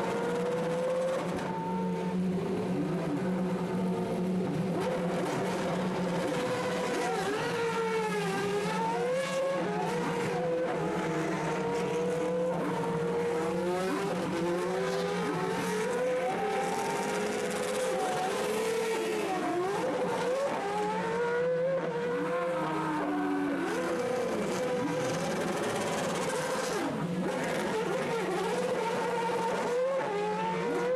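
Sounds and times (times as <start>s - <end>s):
race car engines revving: 0.0s - 30.9s.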